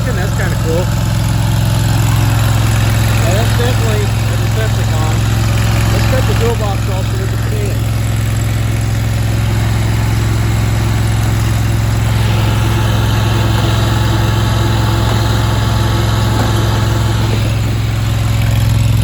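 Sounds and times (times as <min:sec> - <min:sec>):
gas engine running: 0:00.0 - 0:19.0.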